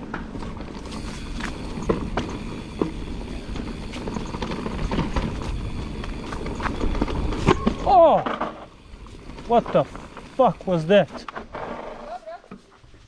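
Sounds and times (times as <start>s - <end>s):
tyres rumbling on dirt: 0.0s - 12.4s
bike knocks and rattles: 0.0s - 12.9s.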